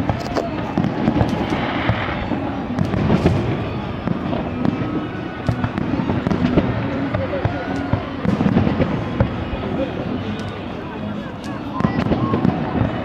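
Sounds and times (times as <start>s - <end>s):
continuous rumble: 0.0s - 13.0s
fireworks bursting with sharp bangs: 0.0s - 13.0s.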